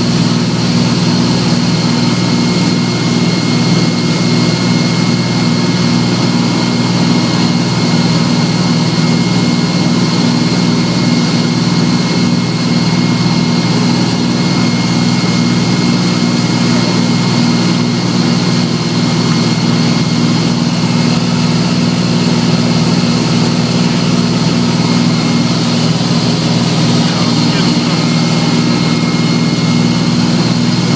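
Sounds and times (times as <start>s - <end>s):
engine droning: 0.0s - 30.9s
high steady whine: 0.0s - 30.9s.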